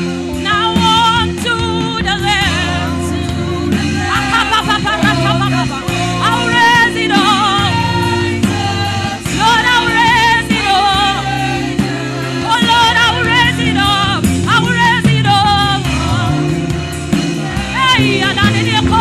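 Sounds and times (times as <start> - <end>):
gospel voices singing: 0.0 - 19.0
sustained accompaniment: 0.0 - 19.0.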